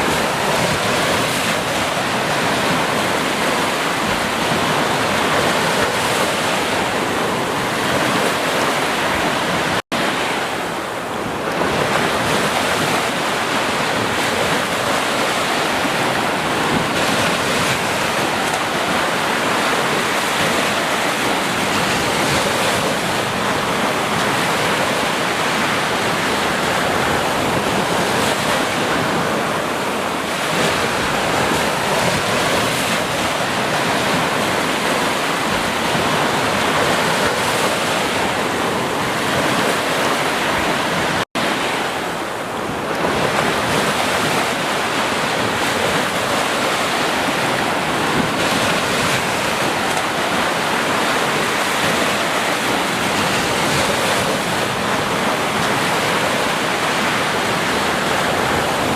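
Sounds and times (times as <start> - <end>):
ocean surf washing onto beach: 0.0 - 58.9.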